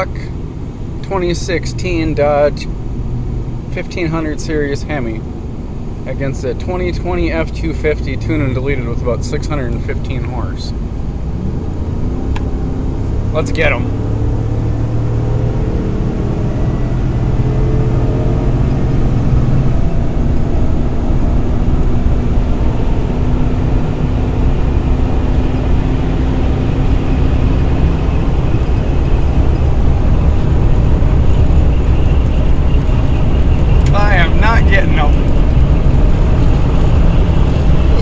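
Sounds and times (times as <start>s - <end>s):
pickup truck engines pulling hard: 0.0s - 38.0s
road and wind noise: 0.0s - 38.0s.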